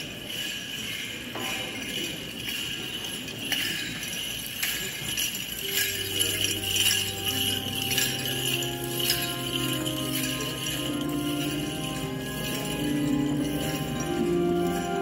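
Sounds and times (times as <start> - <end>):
small metal bells jingling: 0.0 - 15.0.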